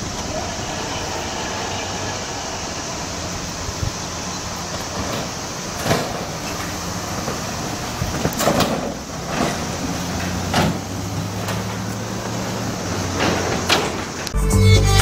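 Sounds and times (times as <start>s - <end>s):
steady hiss: 0.0s - 14.4s
tires knocking over rails: 0.0s - 14.4s
vehicles driving over rail crossing: 0.0s - 15.0s.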